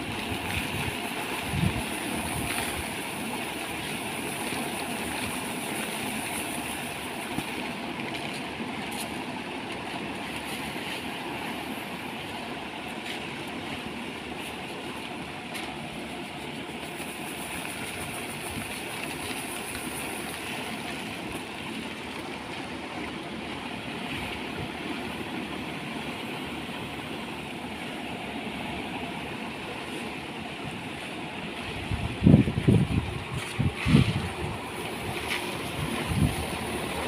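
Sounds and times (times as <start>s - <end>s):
thresher motor and blower running: 0.0s - 37.0s.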